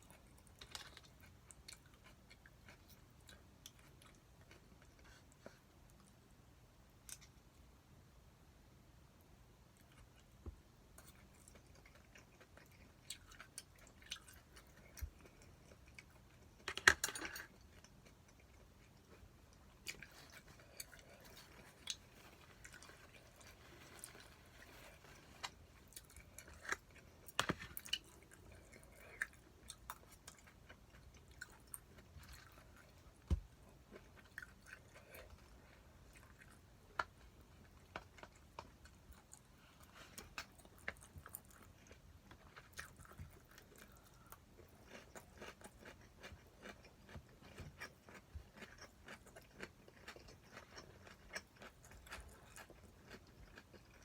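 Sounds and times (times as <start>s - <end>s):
person chewing food: 0.0s - 6.2s, 9.7s - 54.0s.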